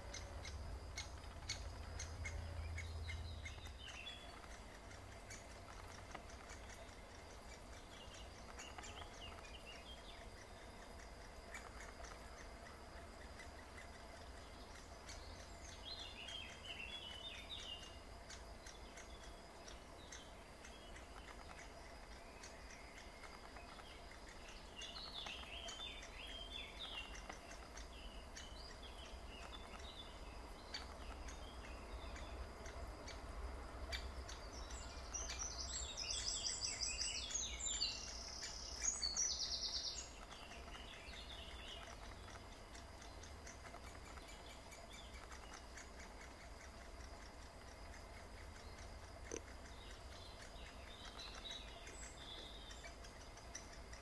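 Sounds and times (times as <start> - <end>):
woodpecker nestlings chattering calls: 0.0 - 54.0.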